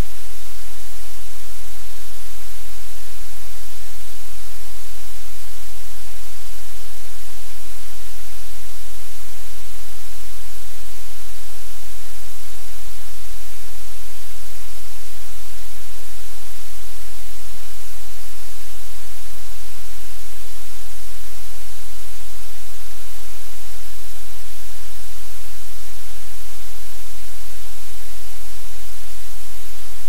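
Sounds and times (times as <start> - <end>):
static hiss: 0.0 - 30.0.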